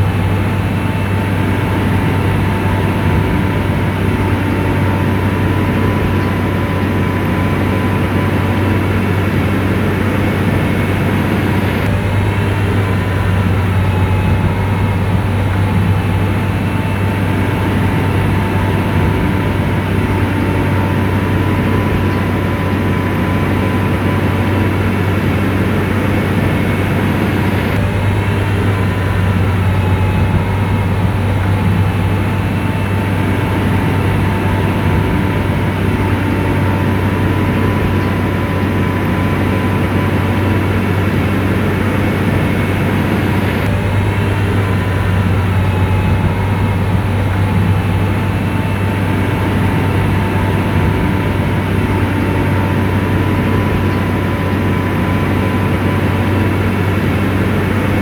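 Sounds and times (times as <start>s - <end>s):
diesel engine droning: 0.0s - 58.0s
thin steady whine: 0.0s - 58.0s.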